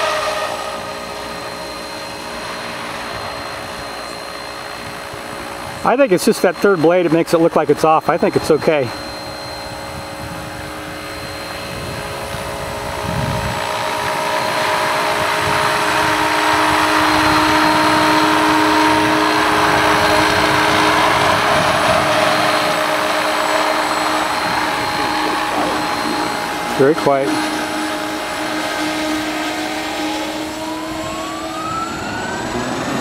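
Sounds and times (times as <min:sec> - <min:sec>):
rc helicopter hovering: 0:00.0 - 0:33.0.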